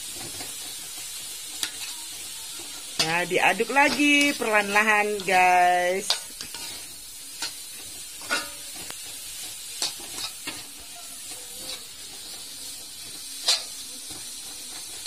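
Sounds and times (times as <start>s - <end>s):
vegetables sizzling in a wok: 0.0s - 15.0s
metal spatula scraping pan: 0.1s - 15.0s.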